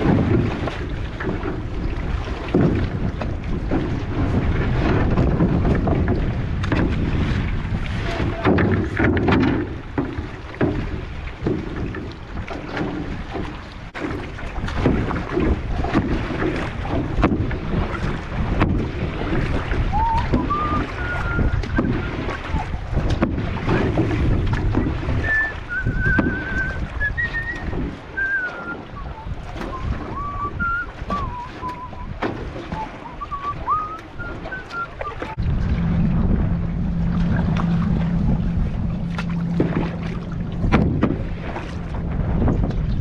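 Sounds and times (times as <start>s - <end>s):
canoe paddle splashing in water: 0.0s - 43.0s
wind buffeting microphone: 0.0s - 43.0s.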